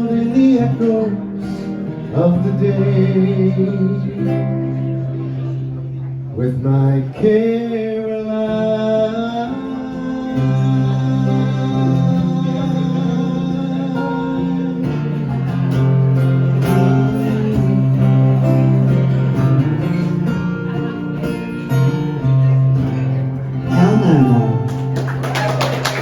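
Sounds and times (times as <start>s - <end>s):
plucked acoustic guitar ballad: 0.0s - 26.0s.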